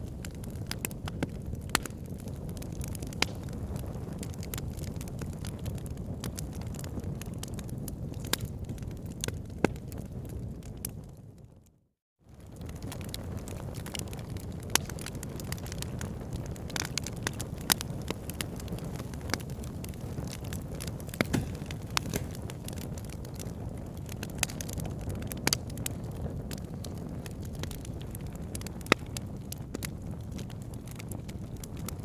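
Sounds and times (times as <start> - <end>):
wood fire crackling and popping: 0.0 - 11.2, 12.3 - 32.0.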